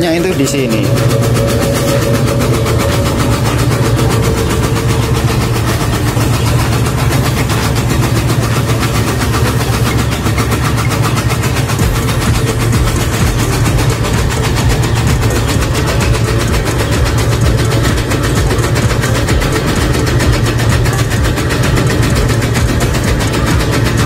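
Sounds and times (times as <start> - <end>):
electric motor humming: 0.0 - 24.0
fast regular mechanical rattle: 0.0 - 24.0.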